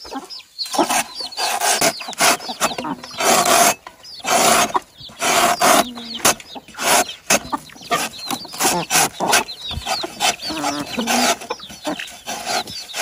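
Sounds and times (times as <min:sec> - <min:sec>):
chickens squawking: 0:00.0 - 0:13.0
high thin peeping calls: 0:00.0 - 0:13.0.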